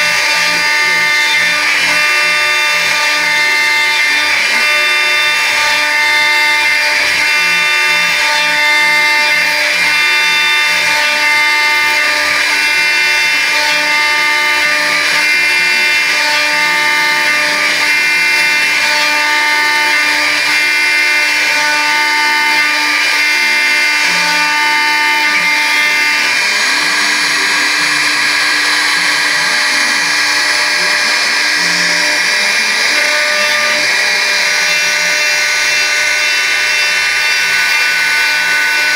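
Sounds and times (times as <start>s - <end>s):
router cutting wood: 0.0s - 38.9s
spindle high whine: 0.0s - 38.9s.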